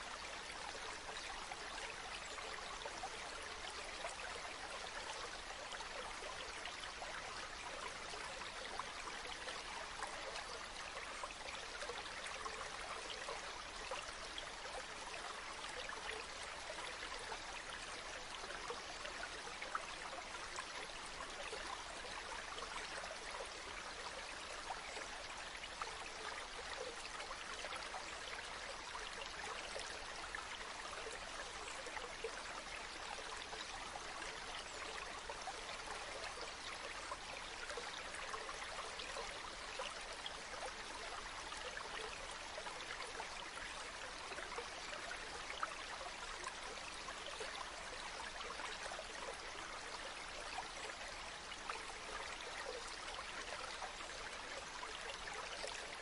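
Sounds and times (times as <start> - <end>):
river flowing: 0.0 - 56.0.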